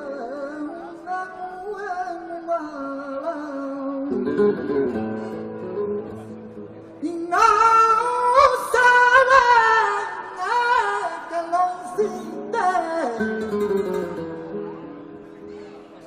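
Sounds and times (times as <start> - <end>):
man singing flamenco: 0.0 - 14.6
acoustic flamenco guitar: 0.0 - 16.0.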